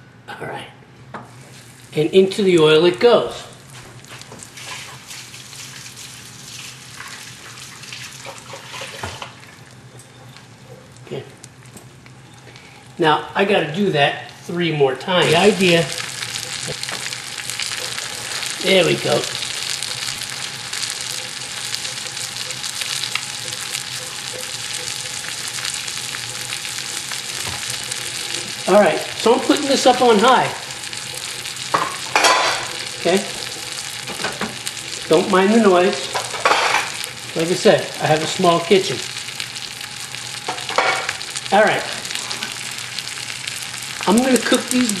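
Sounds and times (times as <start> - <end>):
chicken sizzling in oil: 3.6 - 13.0, 15.2 - 45.0.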